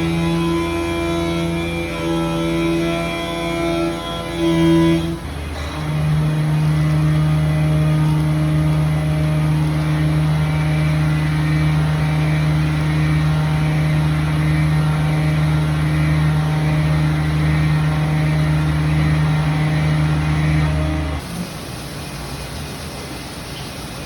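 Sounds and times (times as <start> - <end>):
mill machining hum: 0.0 - 24.0.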